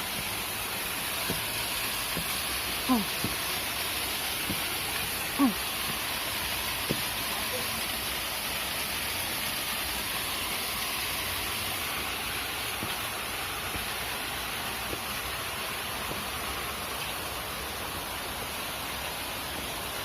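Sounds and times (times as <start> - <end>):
stream flowing over rocks: 0.0 - 20.0.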